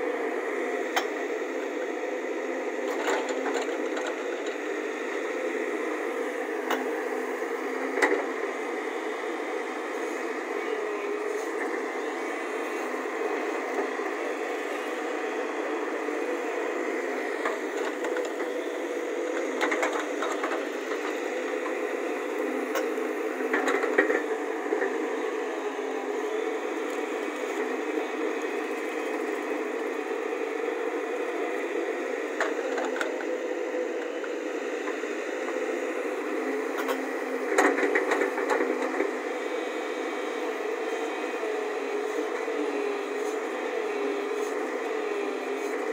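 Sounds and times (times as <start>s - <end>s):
excavator engine and hydraulics: 0.0s - 45.9s.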